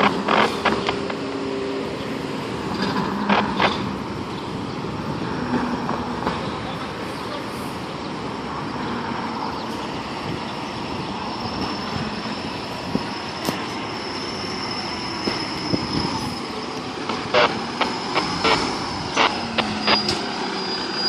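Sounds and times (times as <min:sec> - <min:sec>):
heavy vehicles rumbling: 0:00.0 - 0:21.0.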